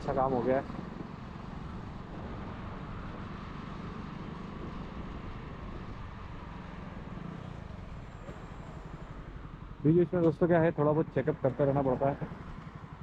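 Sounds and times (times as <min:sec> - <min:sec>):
road and traffic rumble: 0:00.0 - 0:13.0.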